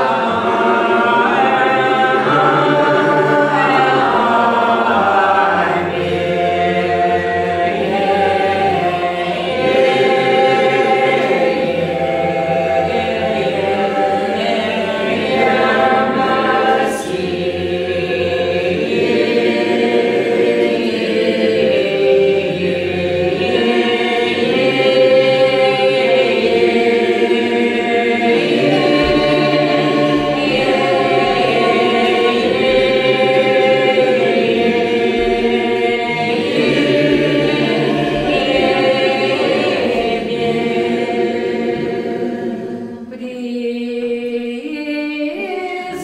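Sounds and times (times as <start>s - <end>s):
choir singing a cappella: 0.0s - 46.0s.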